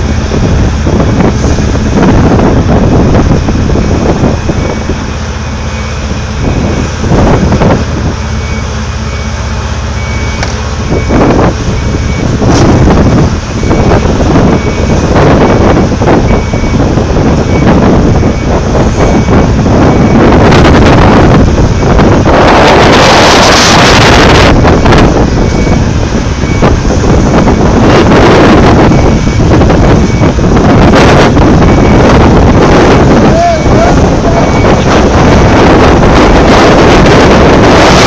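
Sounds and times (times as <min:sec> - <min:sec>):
heavy machinery rumbling: 0:00.0 - 0:38.0
wind buffeting microphone: 0:00.0 - 0:38.0
backup alarm beeping: 0:04.5 - 0:06.8, 0:08.4 - 0:12.4, 0:13.0 - 0:33.0, 0:33.6 - 0:38.0.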